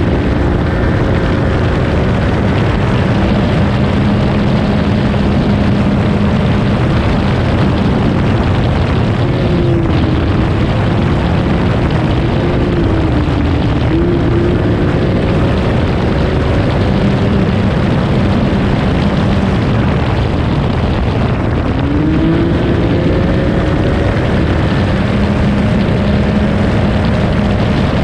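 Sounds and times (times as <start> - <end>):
engine running hard: 0.0 - 28.0
gravel noise: 0.0 - 28.0
wind noise: 0.0 - 28.0.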